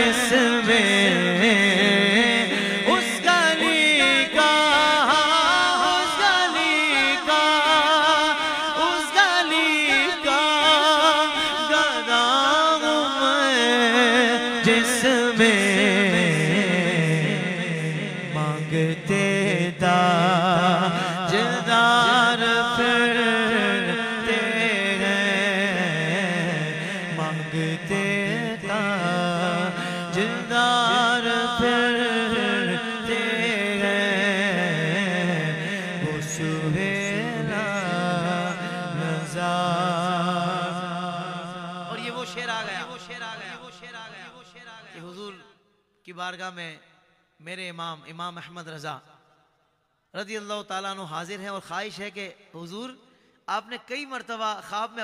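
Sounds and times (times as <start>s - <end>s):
man singing with vibrato: 0.0s - 45.6s.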